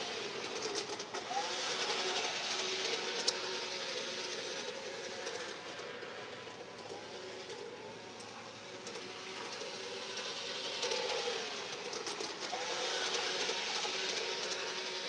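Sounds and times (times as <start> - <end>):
faint motor hum: 0.0 - 15.0
model train running on track: 0.0 - 15.0.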